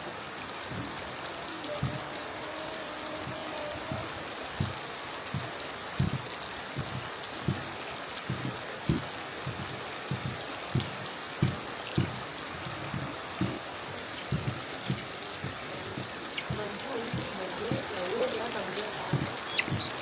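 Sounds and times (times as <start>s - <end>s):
big raindrops thudding: 0.0s - 20.0s
heavy rain falling: 0.0s - 20.0s.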